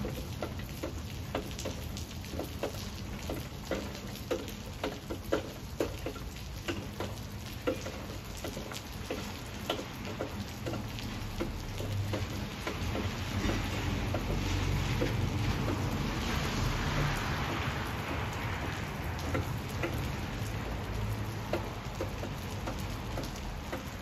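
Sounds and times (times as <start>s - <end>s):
heavy raindrops tapping: 0.0s - 24.0s
rain hiss: 0.0s - 24.0s.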